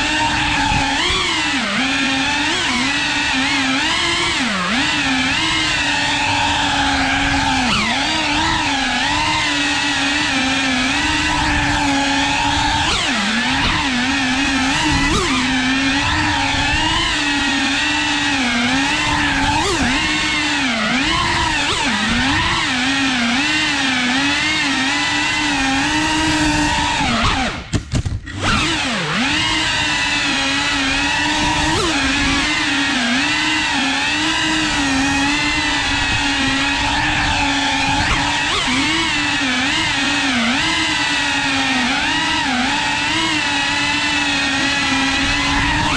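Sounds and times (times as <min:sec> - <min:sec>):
quadcopter motors whining: 0:00.0 - 0:45.9.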